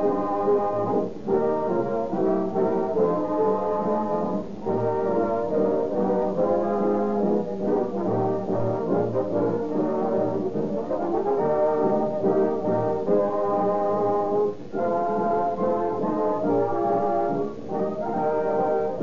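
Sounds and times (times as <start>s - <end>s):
orchestral brass music: 0.0s - 19.0s.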